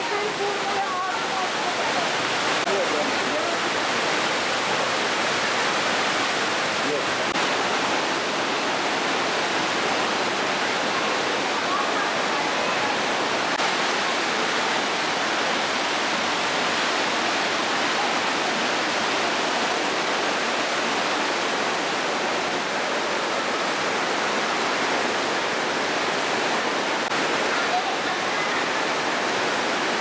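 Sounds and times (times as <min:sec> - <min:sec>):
stream rushing over boulders: 0:00.0 - 0:30.0.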